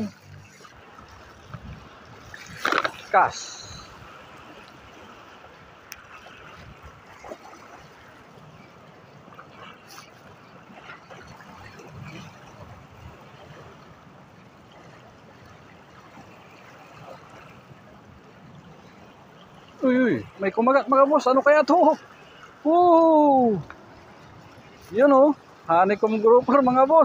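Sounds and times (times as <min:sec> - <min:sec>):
small waves lapping and splashing: 0:00.0 - 0:27.0.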